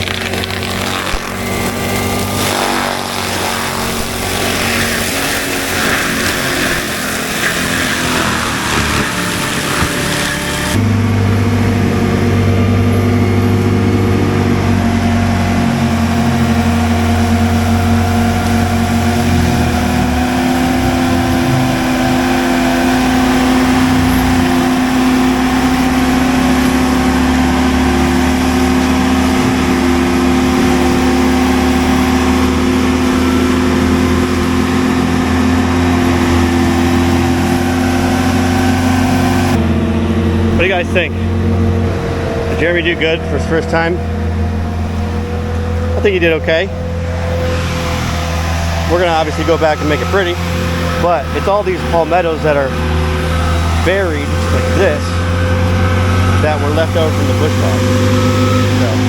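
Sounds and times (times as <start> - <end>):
mulcher engine grinding drone: 0.0 - 59.0.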